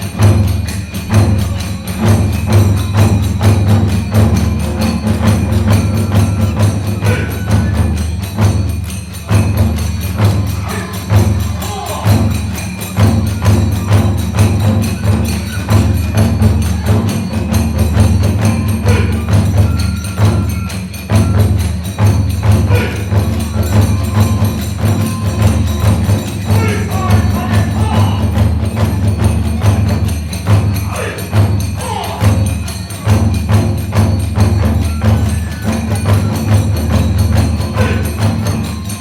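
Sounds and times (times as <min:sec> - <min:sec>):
bamboo flute: 0:00.0 - 0:39.0
big drum beating: 0:00.0 - 0:39.0
hand cymbals clashing: 0:00.0 - 0:39.0
small drums beating: 0:00.0 - 0:39.0.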